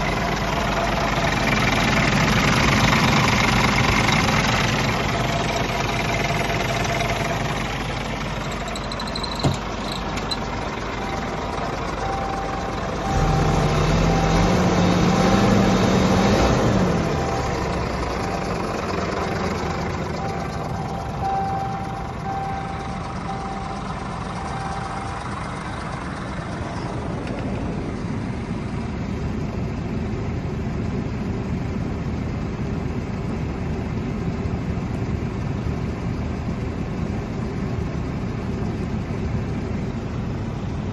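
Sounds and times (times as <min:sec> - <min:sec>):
diesel truck engine idling and revving: 0:00.0 - 0:40.9.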